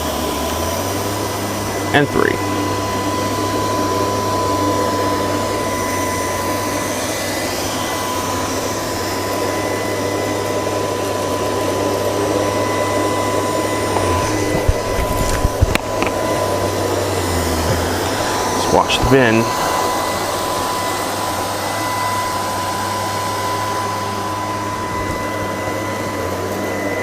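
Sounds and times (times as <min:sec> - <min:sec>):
robot vacuum running: 0:00.0 - 0:27.0.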